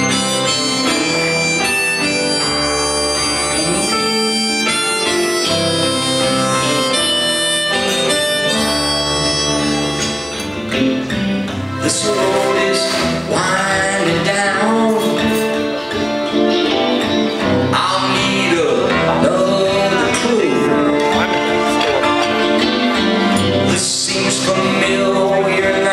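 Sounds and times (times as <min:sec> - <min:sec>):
harmonica chords and bent notes: 0:00.0 - 0:25.9
keyboard: 0:00.0 - 0:25.9
strummed acoustic guitar: 0:00.0 - 0:25.9.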